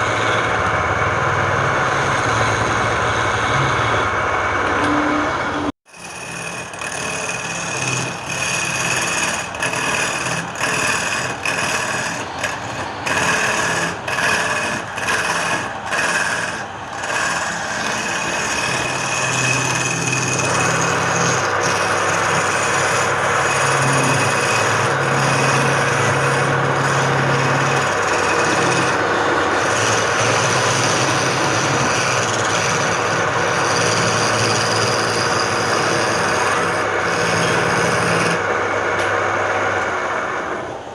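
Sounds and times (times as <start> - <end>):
lathe tool scraping wood: 0.0 - 5.0, 5.8 - 38.7
lathe motor whine: 0.0 - 40.9.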